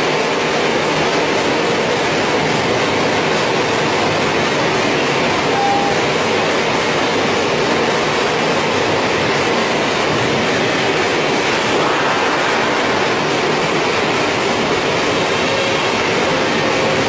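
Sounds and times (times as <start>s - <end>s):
production line machinery running: 0.0s - 17.0s.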